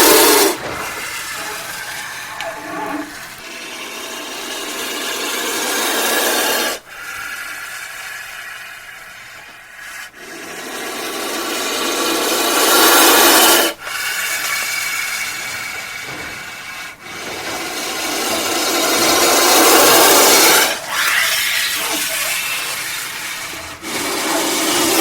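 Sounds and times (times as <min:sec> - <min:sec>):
snake hissing: 0:00.0 - 0:25.0.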